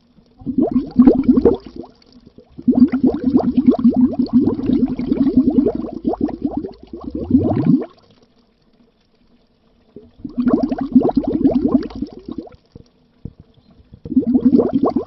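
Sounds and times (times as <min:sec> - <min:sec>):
air bubbles burbling underwater: 0:00.0 - 0:08.2, 0:10.0 - 0:15.0.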